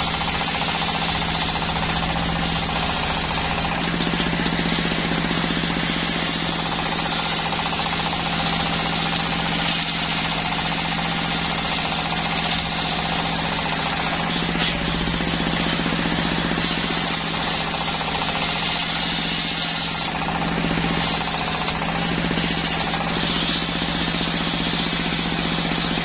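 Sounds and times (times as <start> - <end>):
circular saw cutting wood: 0.0 - 26.0.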